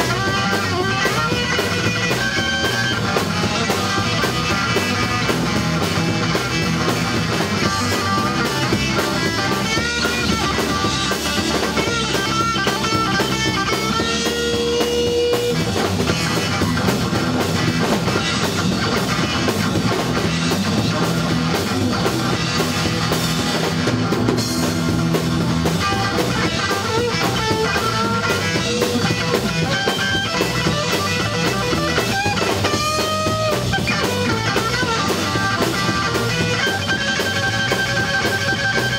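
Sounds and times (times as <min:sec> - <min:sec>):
bass guitar: 0:00.0 - 0:38.9
distorted electric guitars: 0:00.0 - 0:38.9
drum kit: 0:00.0 - 0:38.9
lead guitar bending notes: 0:00.0 - 0:38.9.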